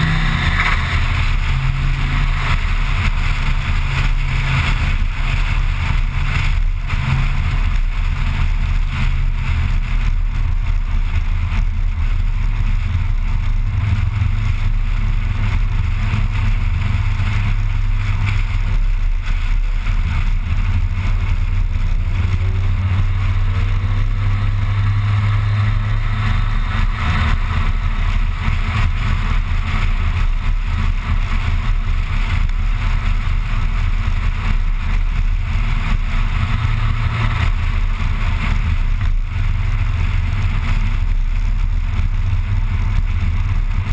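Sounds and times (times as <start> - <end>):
car engine droning: 0.0 - 43.9
tyre and road noise: 0.0 - 43.9.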